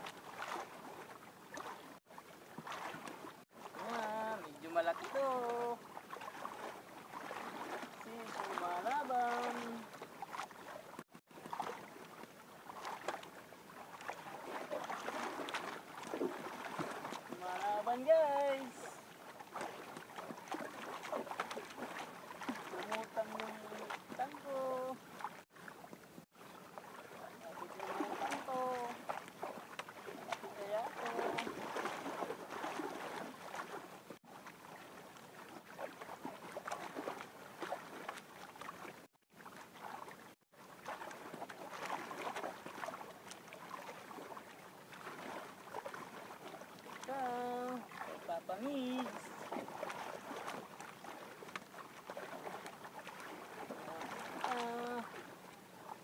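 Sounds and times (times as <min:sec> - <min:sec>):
water lapping and splashing: 0:00.0 - 0:56.0.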